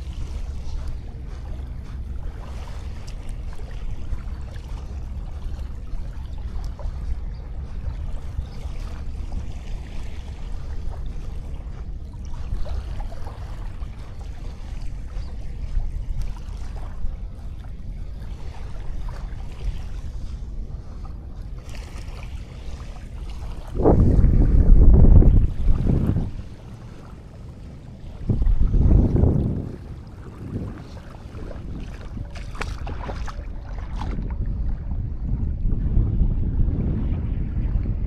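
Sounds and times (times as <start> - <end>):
sea waves washing on beach: 0.0 - 34.4
wind buffeting microphone: 0.0 - 38.0.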